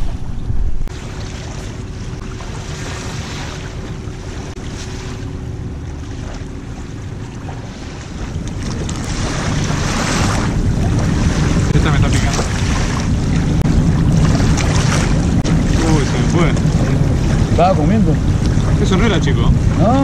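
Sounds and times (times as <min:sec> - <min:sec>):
wind buffeting microphone: 0:00.0 - 0:20.0
small waves lapping on shore: 0:00.9 - 0:20.0.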